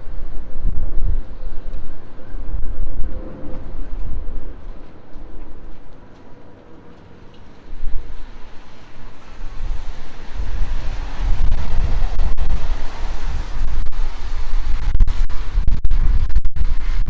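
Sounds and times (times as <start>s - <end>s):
aircraft roar overhead: 0.0s - 14.9s
wind buffeting microphone: 0.0s - 17.0s.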